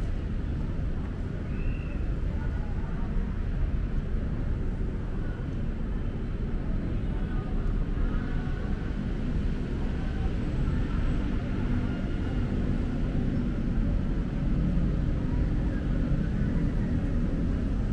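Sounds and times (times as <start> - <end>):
low rumble of city traffic: 0.0 - 17.9.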